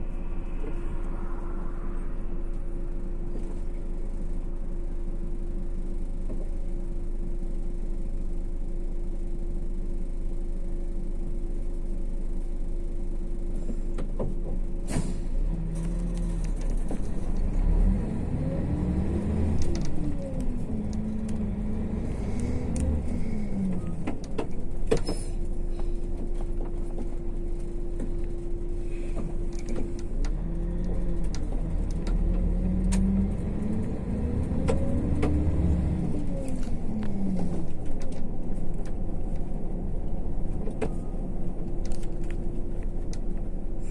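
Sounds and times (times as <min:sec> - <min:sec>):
bus engine and road hum: 0:00.0 - 0:43.9.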